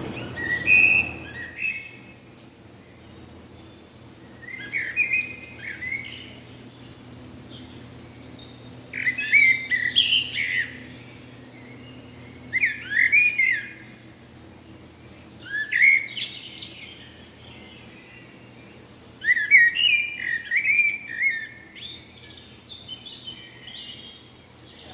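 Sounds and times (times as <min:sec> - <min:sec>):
faint low hum: 0:00.0 - 0:24.9
songbird chirping: 0:00.0 - 0:24.9.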